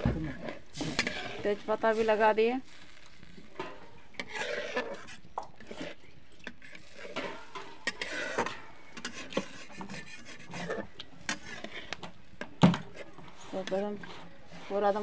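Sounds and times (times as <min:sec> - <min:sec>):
metal spatula scraping a pan: 0:00.0 - 0:15.0.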